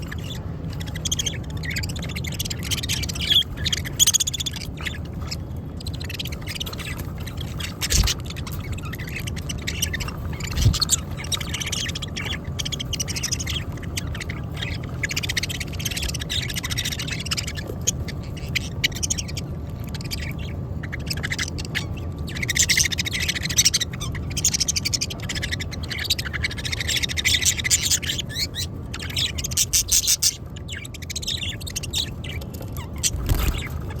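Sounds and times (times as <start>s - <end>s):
budgerigars chattering and chirping: 0.0s - 34.0s
steady low hum: 0.0s - 34.0s.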